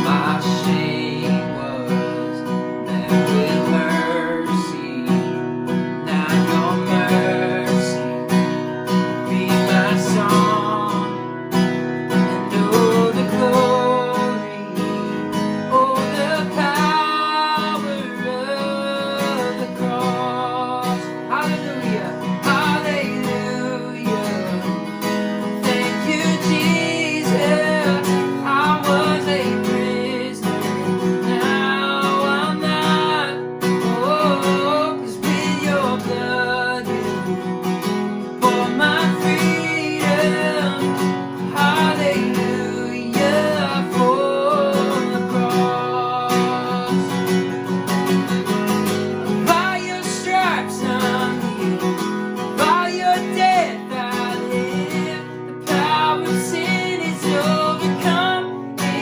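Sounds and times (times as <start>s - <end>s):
person singing: 0.0s - 59.0s
strummed acoustic guitar: 0.0s - 59.0s.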